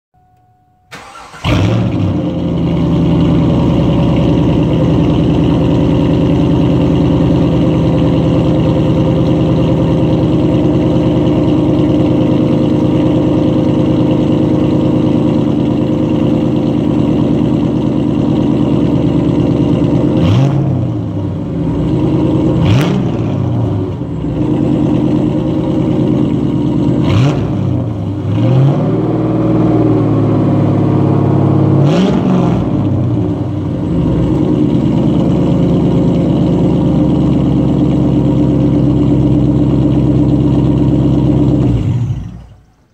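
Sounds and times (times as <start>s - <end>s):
car engine idling: 0.4s - 42.9s
engine revving in throttle blips: 0.9s - 42.9s.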